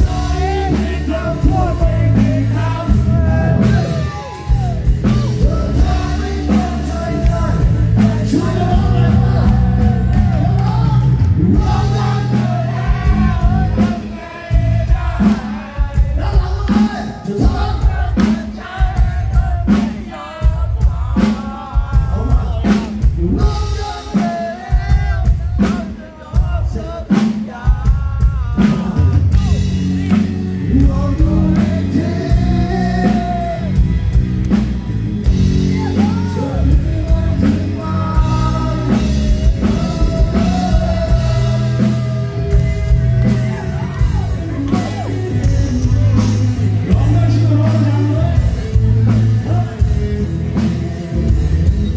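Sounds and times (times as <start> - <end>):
man singing: 0.0 - 33.9, 35.2 - 51.9
live rock band: 0.0 - 51.9.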